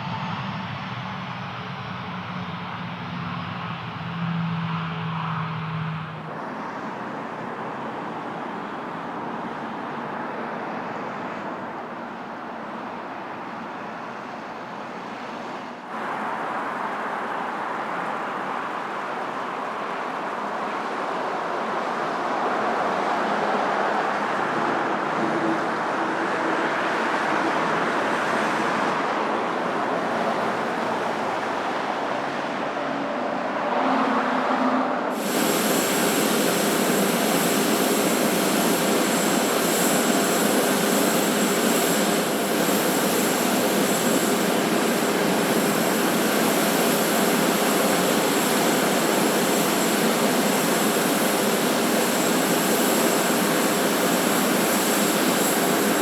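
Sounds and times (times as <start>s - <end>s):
jet engines rushing: 0.0s - 12.0s, 15.3s - 56.0s.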